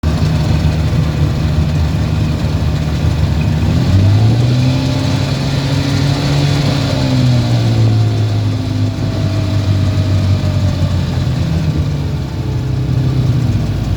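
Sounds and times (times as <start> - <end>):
engine running: 0.0 - 13.9.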